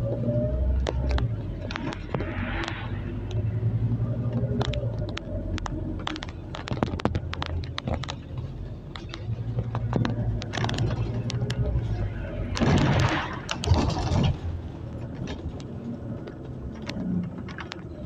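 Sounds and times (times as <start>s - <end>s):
bus engine drone: 0.0s - 18.0s
clicks and rattles from bus body: 0.7s - 3.4s, 4.3s - 18.0s.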